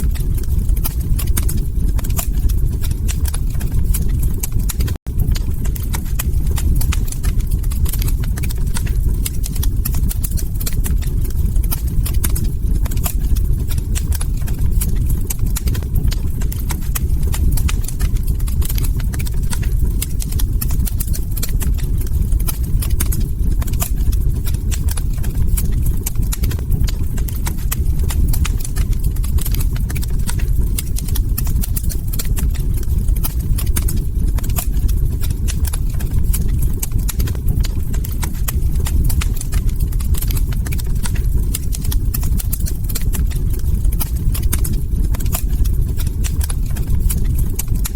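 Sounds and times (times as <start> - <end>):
log fire crackling: 0.0 - 47.9
low fire rumble: 0.0 - 47.9.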